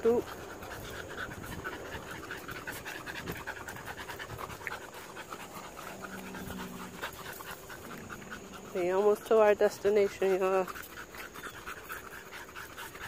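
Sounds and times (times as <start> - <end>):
puppy panting: 0.0 - 13.0.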